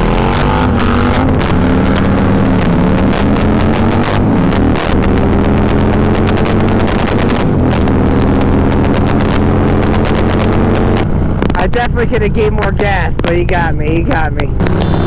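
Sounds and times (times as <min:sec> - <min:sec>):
motorcycle engine at full throttle: 0:00.0 - 0:15.0.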